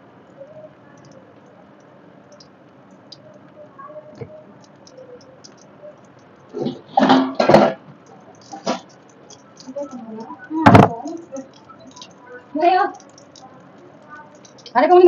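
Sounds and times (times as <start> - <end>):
small crackles and pops: 0.0 - 15.0.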